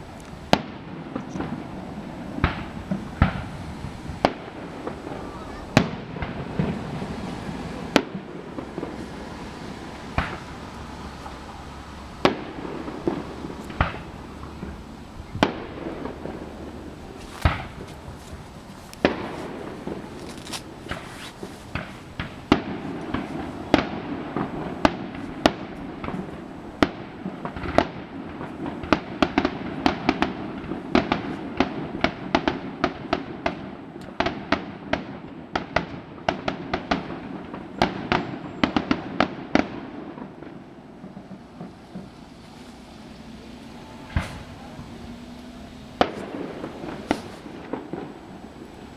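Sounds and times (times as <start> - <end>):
fireworks booming: 0.0 - 48.9.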